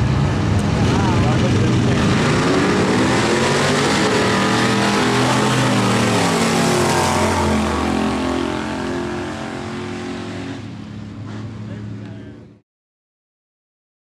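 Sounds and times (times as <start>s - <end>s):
trucks racing at full throttle: 0.0s - 12.6s.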